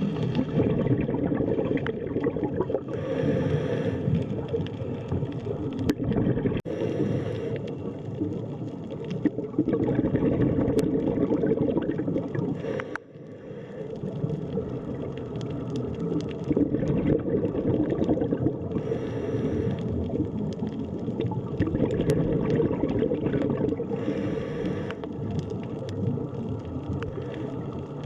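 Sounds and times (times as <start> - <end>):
muffled underwater water wash: 0.0 - 28.0
small underwater clicks: 0.0 - 28.0.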